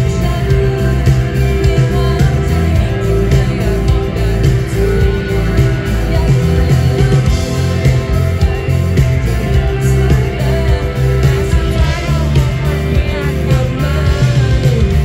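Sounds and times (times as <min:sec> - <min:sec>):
bass guitar: 0:00.0 - 0:15.0
drums: 0:00.0 - 0:15.0
electric guitars: 0:00.0 - 0:15.0
woman singing into microphone: 0:00.0 - 0:15.0.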